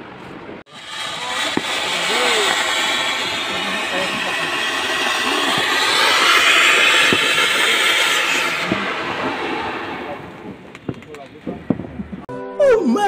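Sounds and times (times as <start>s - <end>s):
fountain firework hissing: 0.6s - 11.5s.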